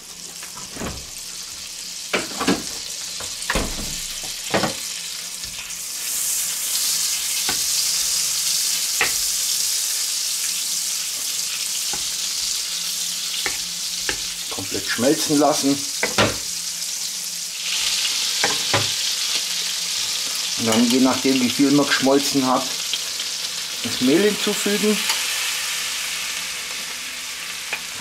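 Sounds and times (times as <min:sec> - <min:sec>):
butter sizzling in a frying pan: 0:00.0 - 0:28.0.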